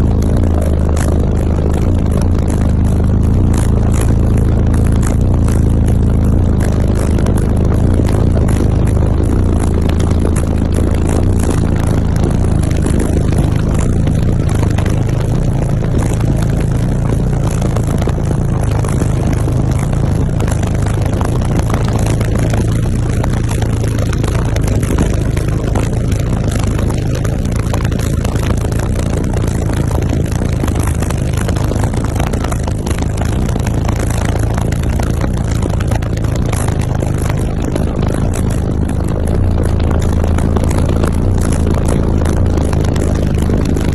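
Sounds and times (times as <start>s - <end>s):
loud subwoofer bass: 0.0s - 43.9s.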